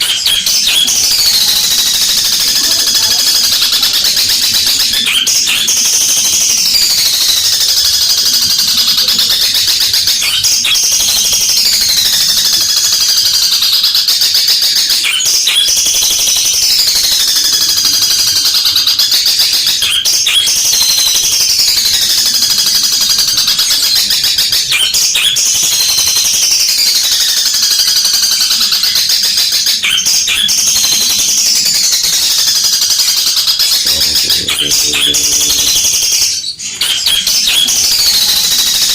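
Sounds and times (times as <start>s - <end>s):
bird singing harsh chattering song: 0.0s - 38.9s.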